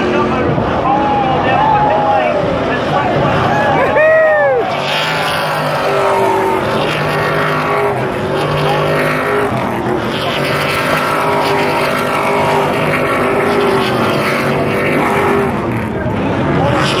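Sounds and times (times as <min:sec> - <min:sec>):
racing truck engines revving: 0:00.0 - 0:17.0.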